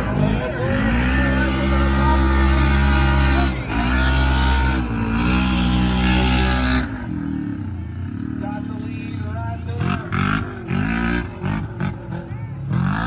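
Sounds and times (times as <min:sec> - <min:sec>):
racing engine at high revs: 0:00.0 - 0:08.9, 0:09.7 - 0:13.0.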